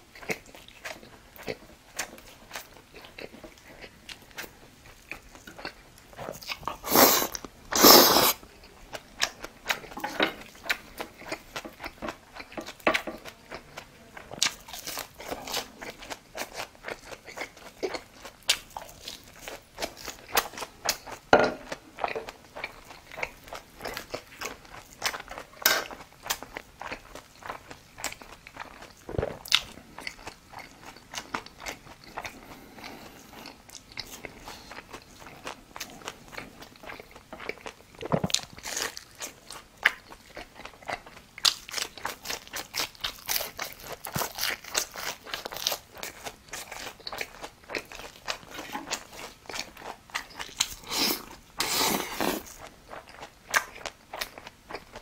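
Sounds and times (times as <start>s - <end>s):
chewing crunchy food: 0.0s - 55.0s.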